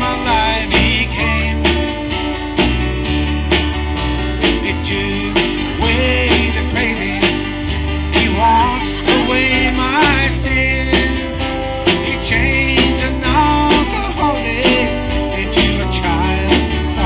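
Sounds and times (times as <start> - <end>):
country gospel band playing: 0.0 - 17.0.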